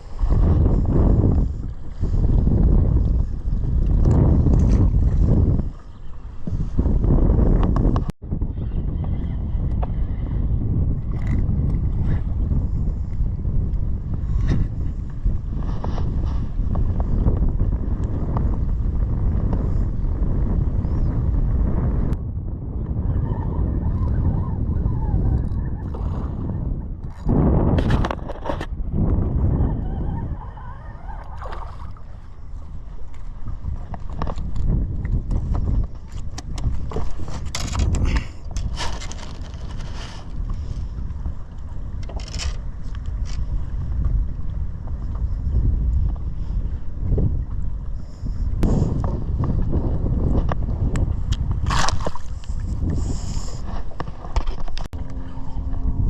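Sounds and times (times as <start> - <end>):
boat motor and water rumble: 0.0 - 56.0
wind noise on microphone: 0.0 - 56.0.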